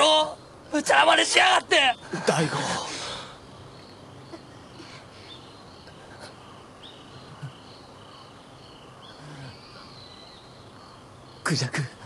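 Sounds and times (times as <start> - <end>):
insects chirping: 0.0 - 12.0
low steady background noise: 0.0 - 12.0.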